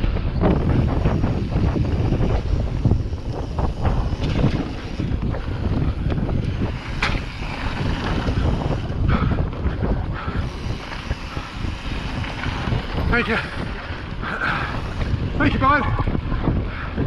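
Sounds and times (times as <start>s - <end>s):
bike rattling over dirt trail: 0.0s - 17.0s
wind buffeting microphone: 0.0s - 17.0s.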